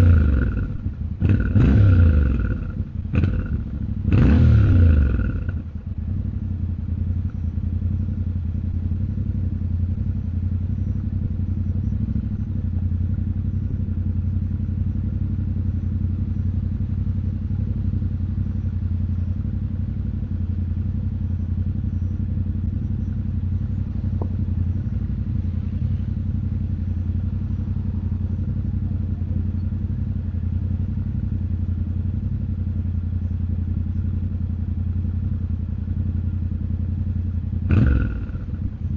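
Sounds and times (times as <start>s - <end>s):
motorcycle engine idling low: 0.0s - 38.9s.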